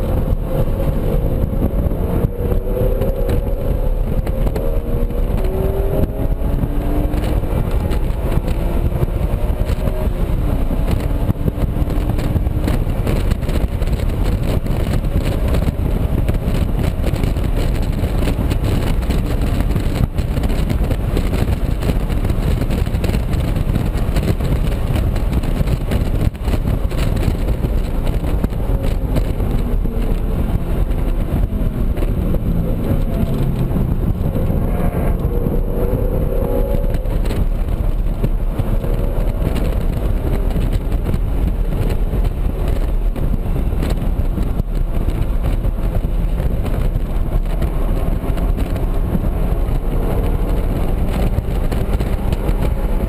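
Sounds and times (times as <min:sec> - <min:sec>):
car engine at full throttle: 0:00.0 - 0:53.0
wind and road noise in cabin: 0:00.0 - 0:53.0.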